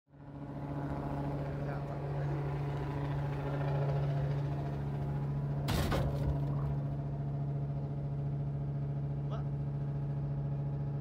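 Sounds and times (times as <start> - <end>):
boat engine droning: 0.2 - 11.0.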